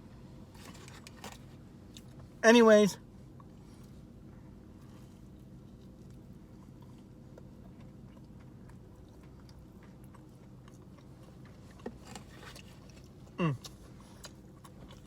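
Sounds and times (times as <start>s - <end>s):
quiet chewing and mouth sounds: 0.0s - 2.4s, 3.0s - 15.0s
steady low hum: 0.0s - 15.0s.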